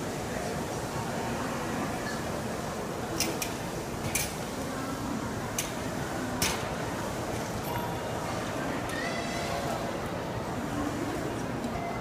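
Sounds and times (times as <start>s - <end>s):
background noise: 0.0s - 12.0s
faint voices: 0.0s - 12.0s.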